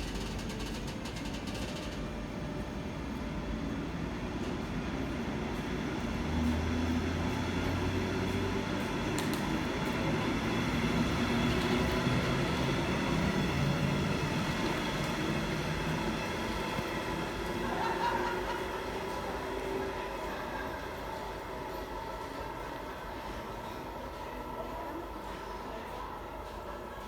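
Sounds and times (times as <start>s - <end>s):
electric train rumbling by: 0.0s - 27.0s.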